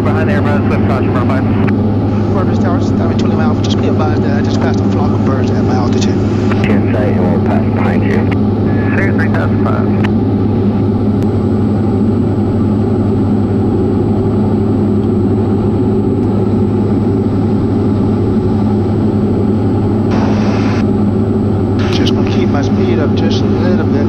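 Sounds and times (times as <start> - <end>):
aircraft engine and propeller droning: 0.0 - 24.0.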